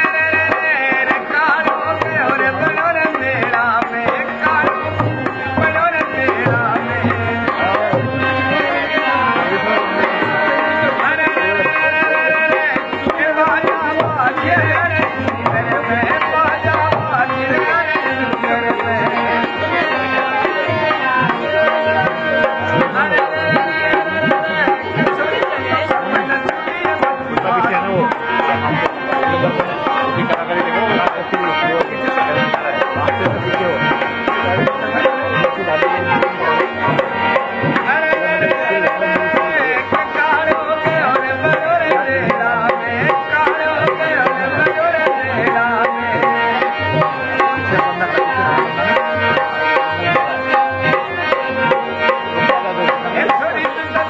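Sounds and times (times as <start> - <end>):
folk melody line: 0.0 - 54.0
hand drum rhythm: 0.0 - 54.0.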